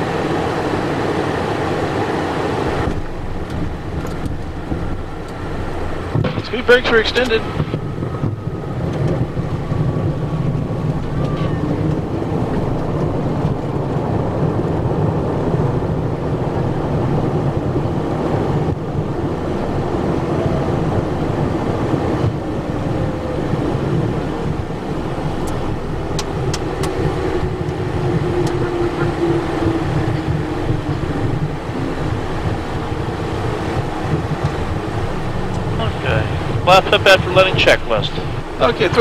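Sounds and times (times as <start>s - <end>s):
jet cockpit rumble and whine: 0.0s - 39.0s.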